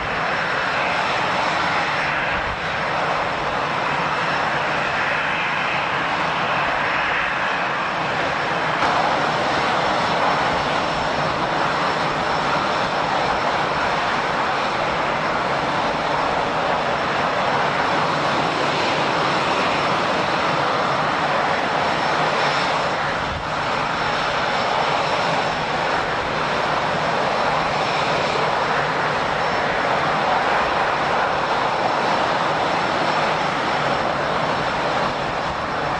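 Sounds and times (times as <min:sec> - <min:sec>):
jet engines idling: 0:00.0 - 0:35.9.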